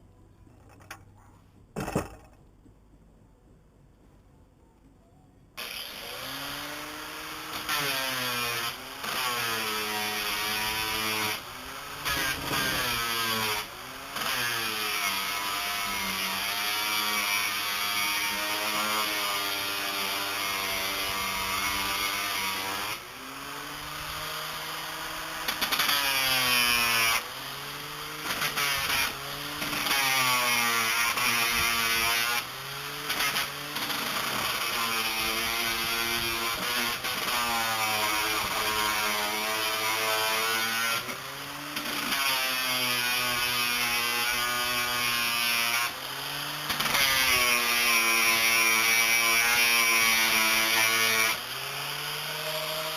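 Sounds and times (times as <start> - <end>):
grinder disc grinding wood: 5.6 - 52.9.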